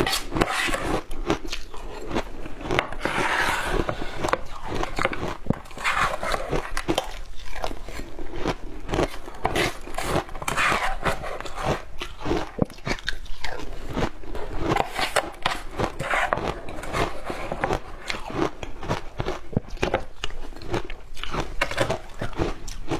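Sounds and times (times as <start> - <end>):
chewing ice crunches: 0.0 - 22.9.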